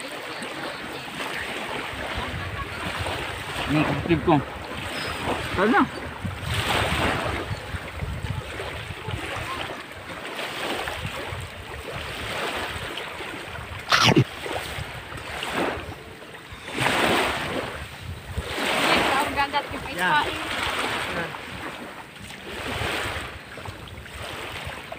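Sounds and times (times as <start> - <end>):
small waves lapping at shore: 0.0 - 24.9.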